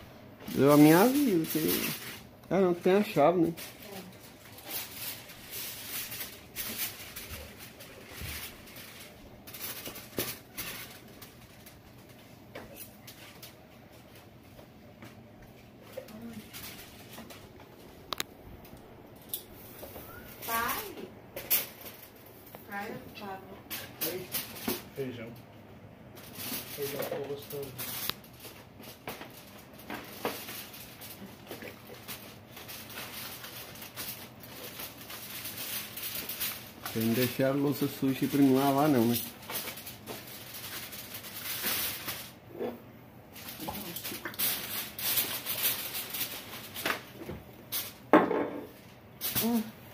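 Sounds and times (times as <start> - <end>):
foil trays rustling: 0.4 - 18.3, 19.5 - 25.2, 26.2 - 42.4, 43.3 - 48.1.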